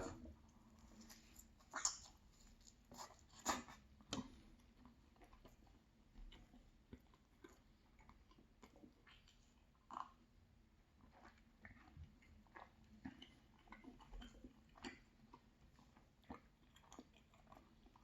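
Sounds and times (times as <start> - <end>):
chewing mouth sounds: 0.9 - 18.0.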